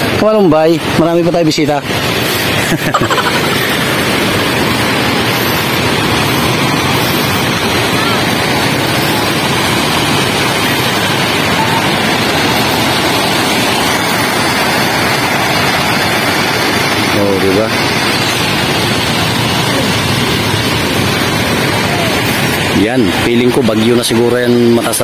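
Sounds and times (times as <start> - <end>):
waves washing up a beach: 0.0 - 25.0.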